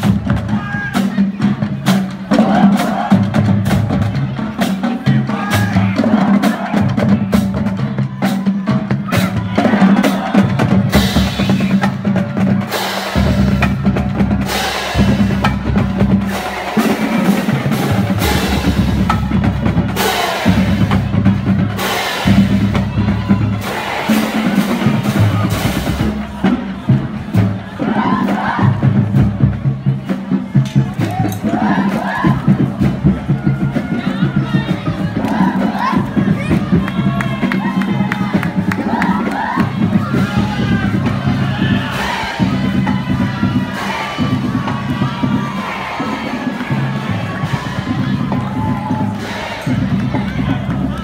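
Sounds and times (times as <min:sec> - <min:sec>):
snare and bass drums: 0:00.0 - 0:51.0.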